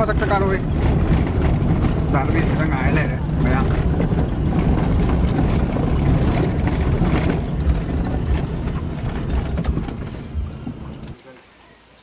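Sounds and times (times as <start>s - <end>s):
small knocks and rattles: 0.0s - 11.2s
car engine and tyres rumbling: 0.0s - 11.4s.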